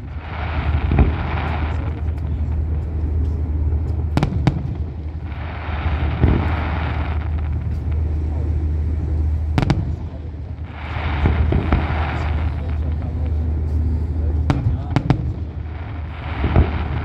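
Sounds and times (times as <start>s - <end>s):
fireworks bangs: 0.0s - 17.0s
fireworks crackling: 0.0s - 17.0s
steady low hum: 0.0s - 17.0s.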